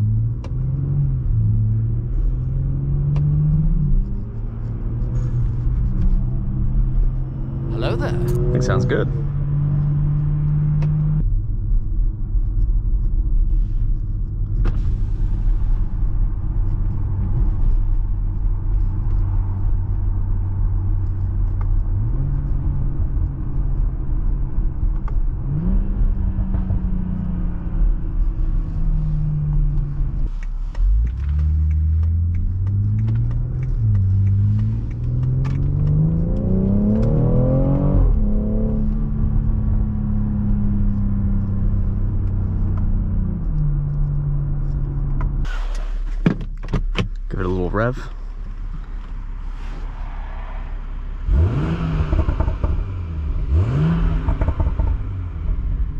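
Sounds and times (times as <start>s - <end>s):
car engine rumbling and accelerating: 0.0s - 55.9s.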